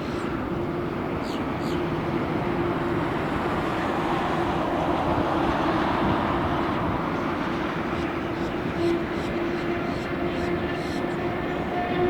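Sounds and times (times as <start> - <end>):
jet airliner engines running: 0.0 - 12.0.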